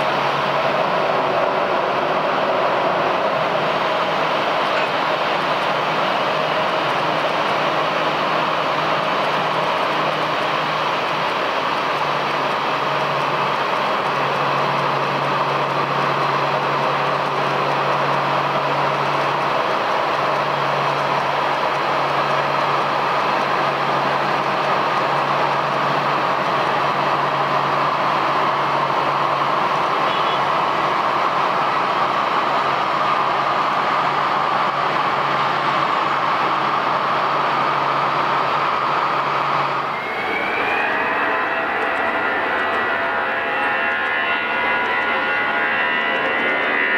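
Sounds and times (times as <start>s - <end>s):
high whine rising in pitch: 0.0s - 46.9s
jet engines idling: 0.0s - 46.9s.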